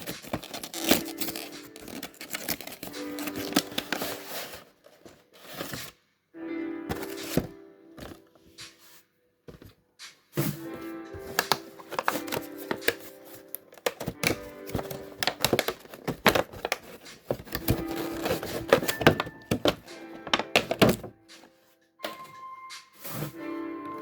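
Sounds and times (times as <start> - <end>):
box and packaging being handled: 0.0 - 6.0, 6.8 - 24.0
background music with held notes: 0.0 - 24.0.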